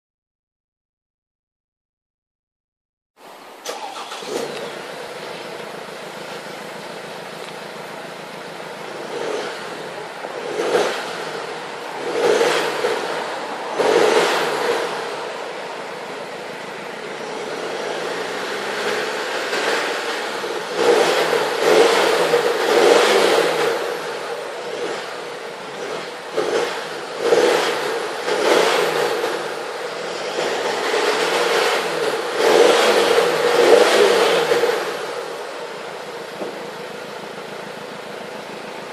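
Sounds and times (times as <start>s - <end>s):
diesel engine idling and revving: 3.6s - 38.9s.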